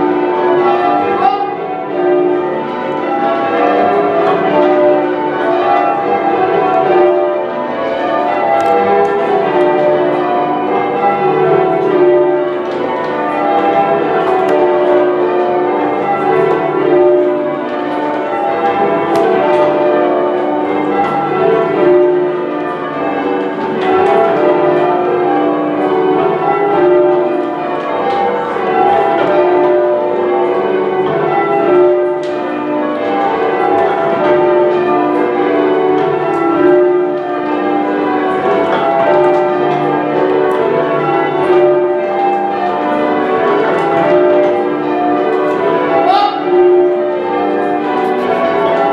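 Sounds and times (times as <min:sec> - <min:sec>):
church bells ringing: 0:00.0 - 0:48.9.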